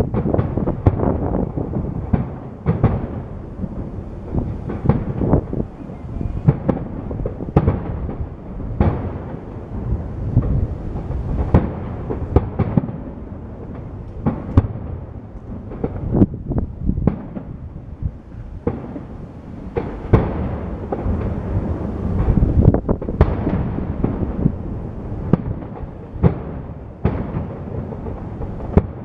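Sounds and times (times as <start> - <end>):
firework shells booming: 0.0 - 29.0.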